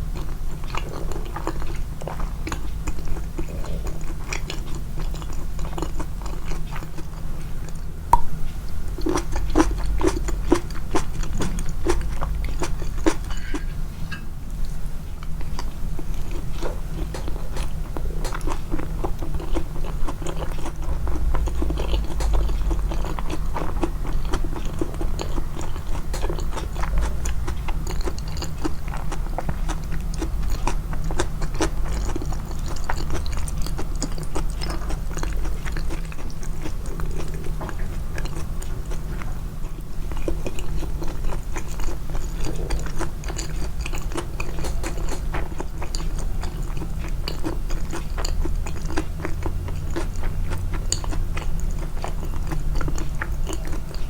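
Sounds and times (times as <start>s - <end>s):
person chewing and biting: 0.0s - 54.0s.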